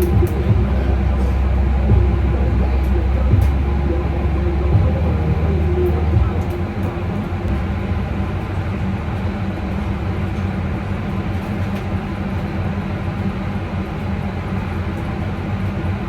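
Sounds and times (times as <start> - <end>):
mechanical drone: 0.0 - 16.0.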